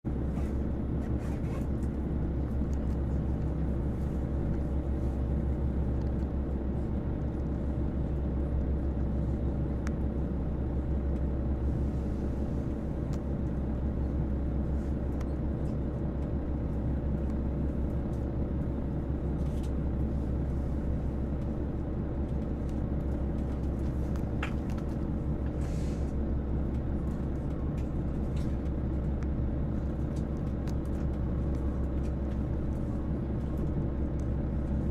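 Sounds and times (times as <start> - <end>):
diesel engines idling: 2.0 - 34.9.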